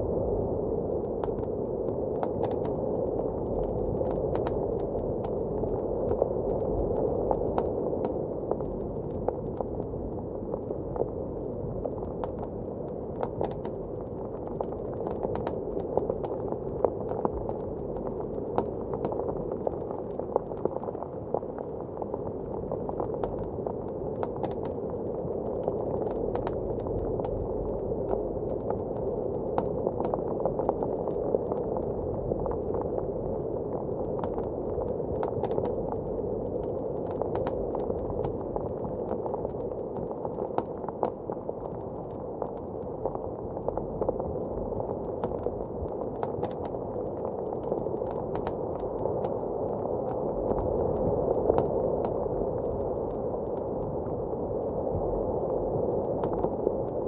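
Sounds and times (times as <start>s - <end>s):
muffled roar of blizzard wind: 0.0s - 57.0s
wood fire crackling and popping: 1.0s - 9.8s, 11.9s - 53.8s.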